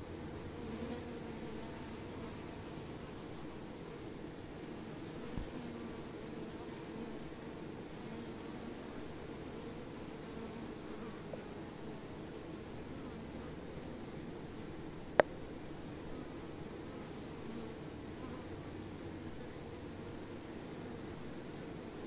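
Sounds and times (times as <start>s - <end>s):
bees buzzing low hum: 0.0s - 22.0s.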